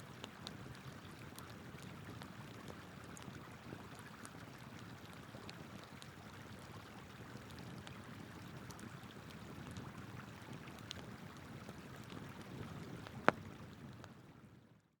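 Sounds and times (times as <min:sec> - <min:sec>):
campfire crackling and popping: 0:00.0 - 0:14.2.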